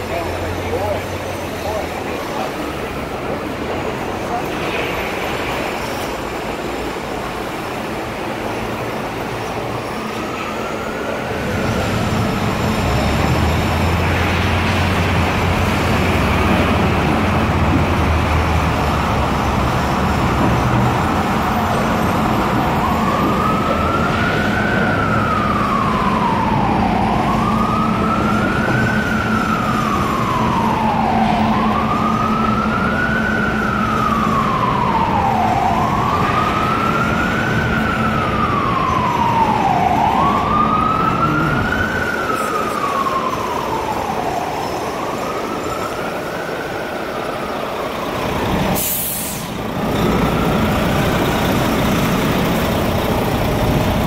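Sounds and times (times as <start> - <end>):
city street traffic: 0.0 - 54.0
heavy engine running: 0.0 - 54.0
emergency siren wailing: 6.3 - 54.0.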